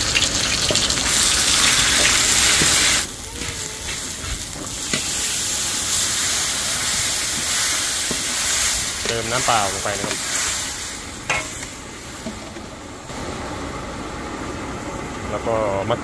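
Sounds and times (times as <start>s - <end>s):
paste sizzling in oil: 0.0s - 12.8s.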